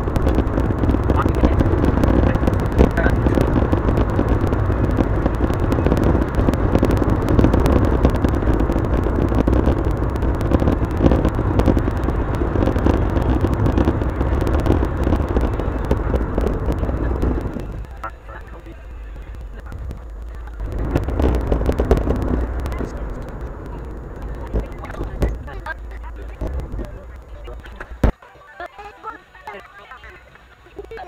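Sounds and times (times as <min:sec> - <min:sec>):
sped-up car road rumble: 0:00.0 - 0:28.2.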